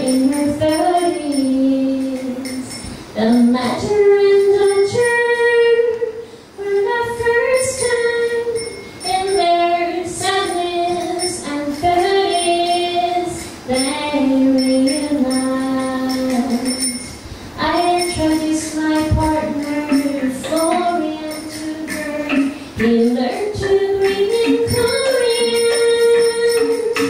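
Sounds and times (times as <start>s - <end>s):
woman singing into microphone: 0.0s - 27.0s.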